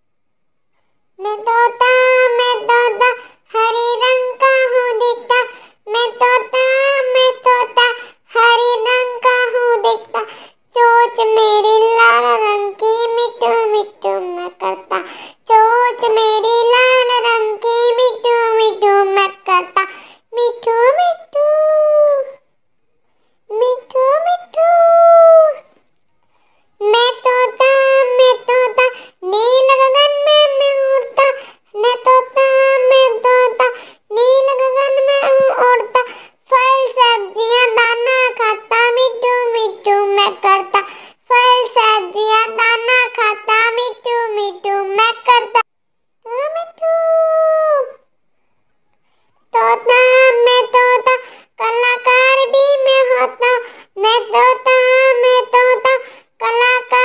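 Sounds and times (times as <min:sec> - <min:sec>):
child-like voice singing: 0:01.2 - 0:22.5, 0:23.5 - 0:25.8, 0:26.8 - 0:48.2, 0:49.4 - 0:57.0.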